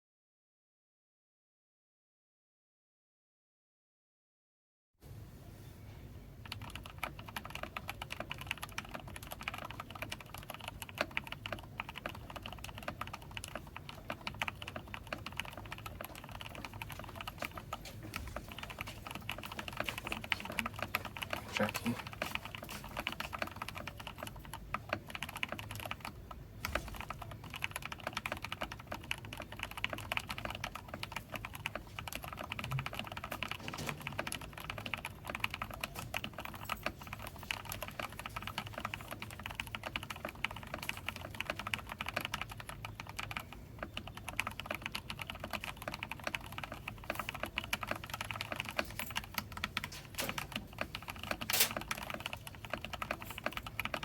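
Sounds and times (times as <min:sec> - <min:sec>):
mechanical keyboard clacks: 0:06.4 - 0:54.0.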